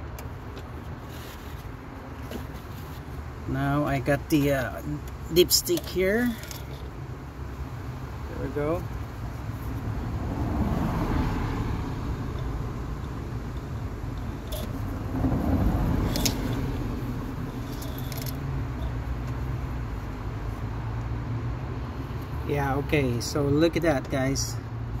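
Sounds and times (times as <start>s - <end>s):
low vehicle rumble: 0.0s - 23.4s.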